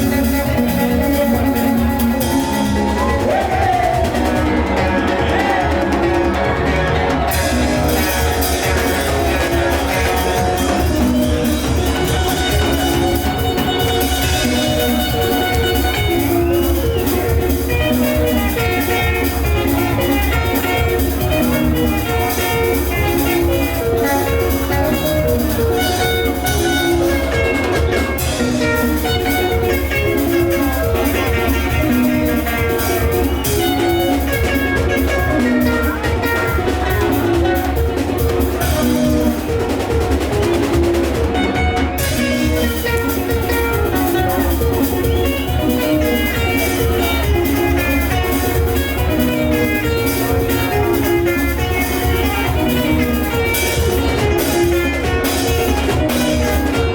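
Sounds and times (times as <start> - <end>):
drum kit beat: 0.0 - 56.9
plucked guitar: 0.0 - 56.9.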